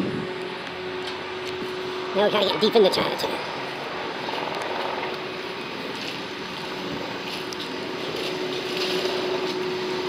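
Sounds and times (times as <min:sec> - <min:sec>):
street traffic: 0:00.0 - 0:10.0
train humming on bridge: 0:00.0 - 0:10.0.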